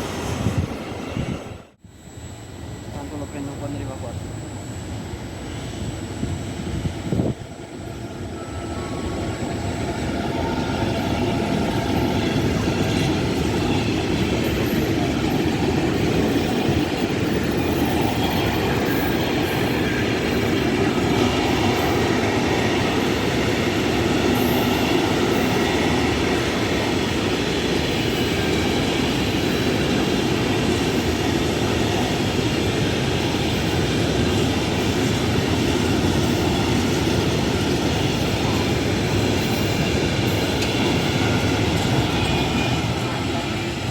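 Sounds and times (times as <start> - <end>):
train wheels on rails: 0.0 - 4.2, 4.9 - 43.9.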